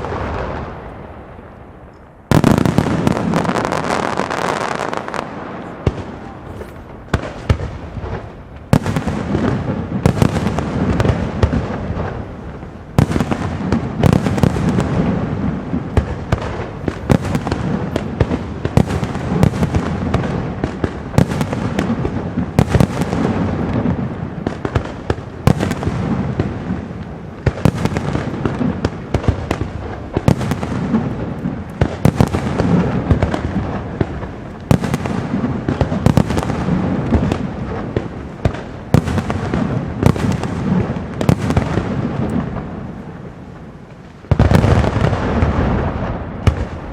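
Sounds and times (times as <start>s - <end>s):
fireworks rumbling and crackling: 0.0s - 46.9s.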